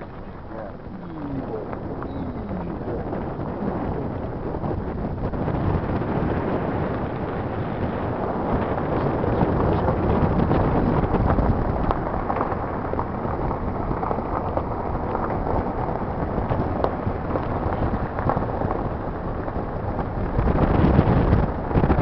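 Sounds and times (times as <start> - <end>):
car road noise: 0.0 - 22.0
wind buffeting microphone: 0.0 - 22.0.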